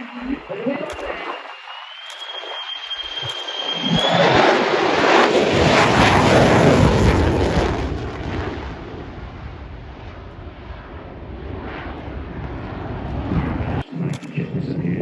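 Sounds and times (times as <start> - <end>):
jet engine roaring past: 0.0 - 15.0.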